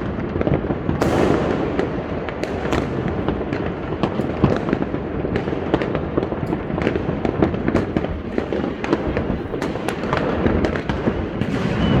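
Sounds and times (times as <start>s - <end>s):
rumble of overlapping firework bangs: 0.0s - 12.0s
sharp firecracker cracks: 1.0s - 12.0s.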